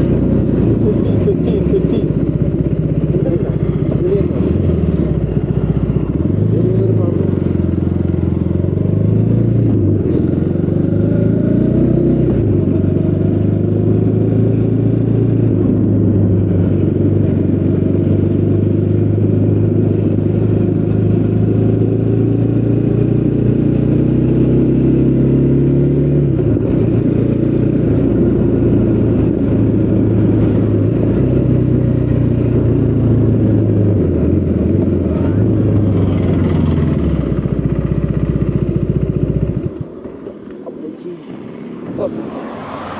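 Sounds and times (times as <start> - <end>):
motorcycle engine on the road: 0.0 - 42.9.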